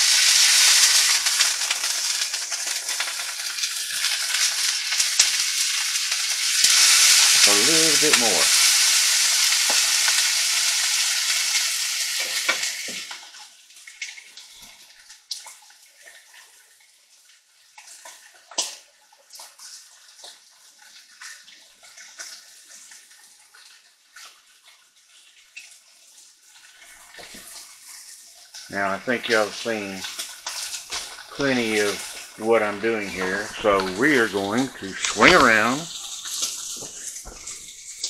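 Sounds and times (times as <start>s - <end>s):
meat sizzling in a skillet: 0.0s - 38.0s.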